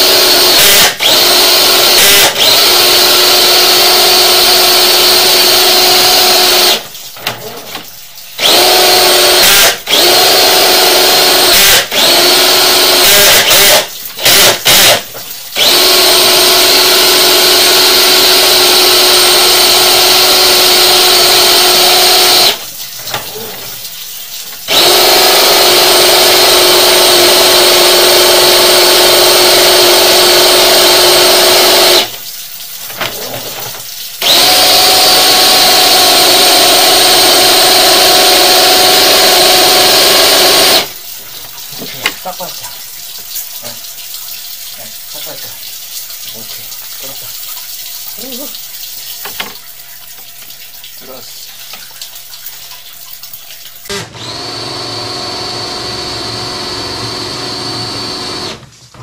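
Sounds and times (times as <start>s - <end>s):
drill spinning drain cable: 0.0s - 59.0s.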